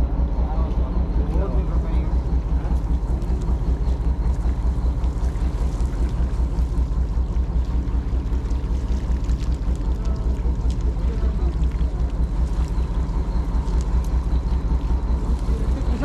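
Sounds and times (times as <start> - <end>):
boat engine throbbing: 0.0 - 16.0.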